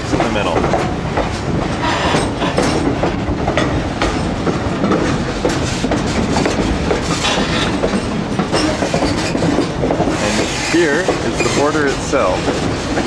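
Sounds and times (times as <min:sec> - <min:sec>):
train rumble: 0:00.0 - 0:13.0
wheels clacking over rail joints: 0:00.0 - 0:13.0.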